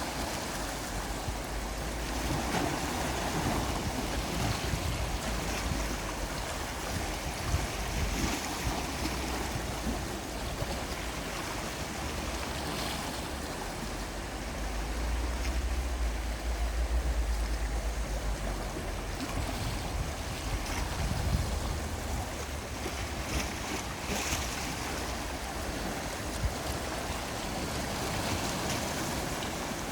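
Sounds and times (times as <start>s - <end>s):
sea waves washing: 0.0s - 29.9s.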